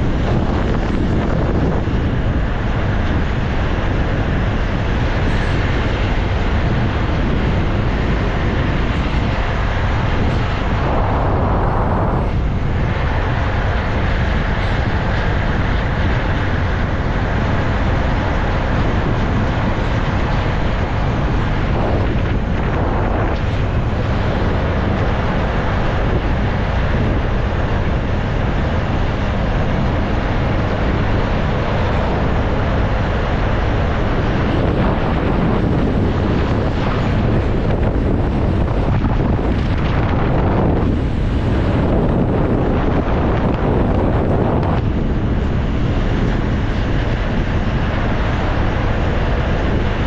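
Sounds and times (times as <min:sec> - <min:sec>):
moving vehicle noise: 0:00.0 - 0:50.0
wind on microphone: 0:00.0 - 0:50.0.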